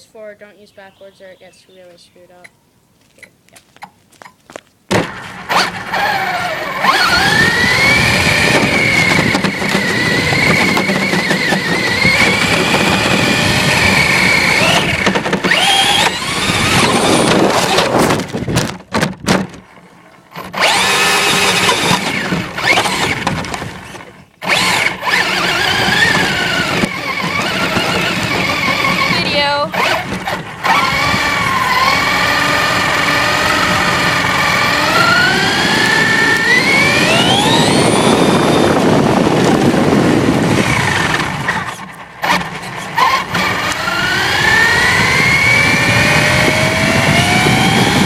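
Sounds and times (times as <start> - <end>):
toy car electric motor whining: 5.3 - 18.4, 20.3 - 48.0.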